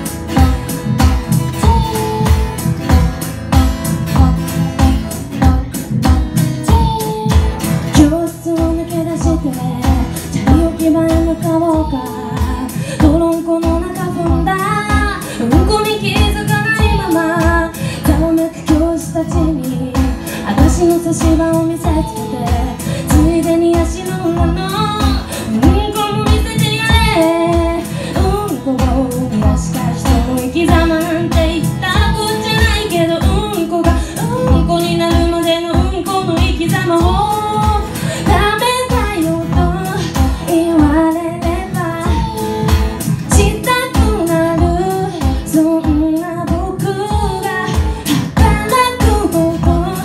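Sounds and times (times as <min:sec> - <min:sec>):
strummed acoustic guitar: 0:00.0 - 0:50.0
woman singing pop song: 0:00.0 - 0:50.0.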